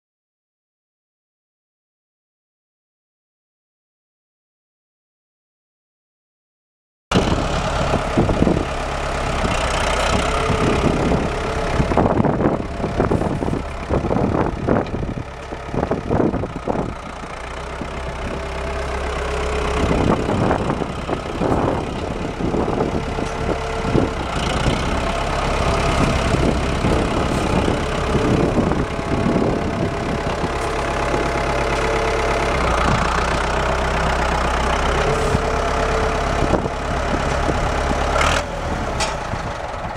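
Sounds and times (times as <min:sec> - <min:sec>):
tractor diesel engine running: 0:07.1 - 0:39.9.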